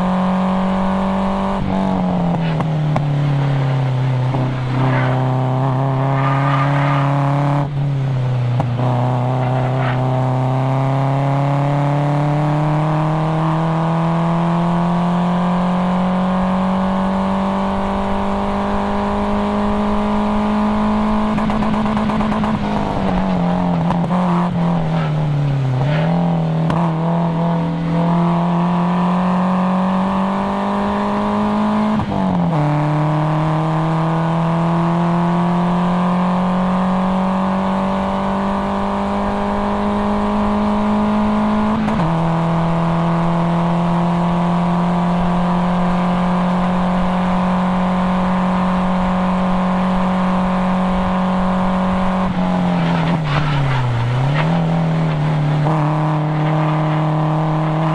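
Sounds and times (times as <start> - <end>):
car engine revving high: 0.0 - 57.9.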